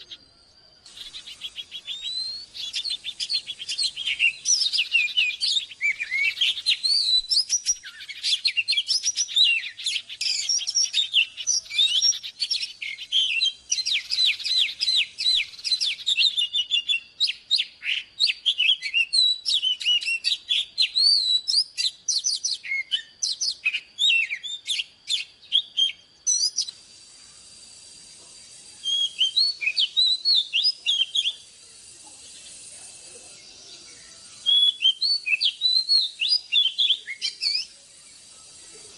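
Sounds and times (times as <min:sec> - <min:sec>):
bird singing whistled notes: 0:00.0 - 0:38.9
faint hiss: 0:00.0 - 0:38.9.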